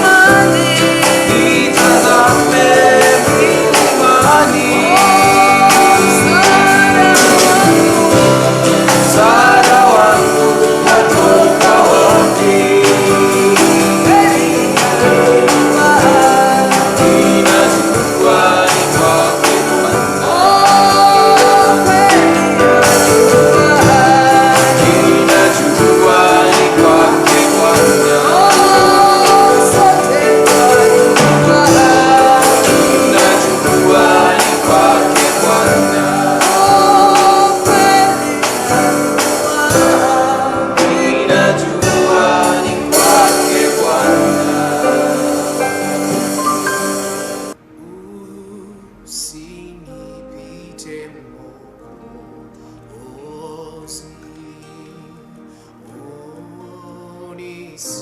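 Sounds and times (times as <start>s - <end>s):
guitar and band: 0.0s - 47.8s
voices singing together: 0.0s - 49.5s.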